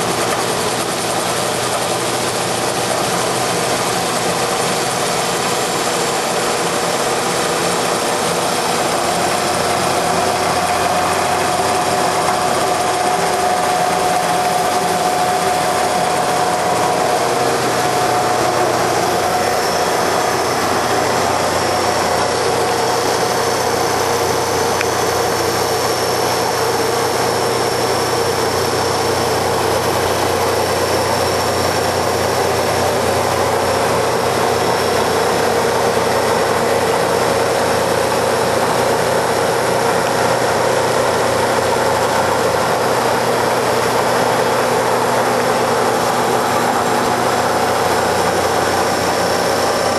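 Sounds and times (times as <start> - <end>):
wood lathe running: 0.0 - 49.9.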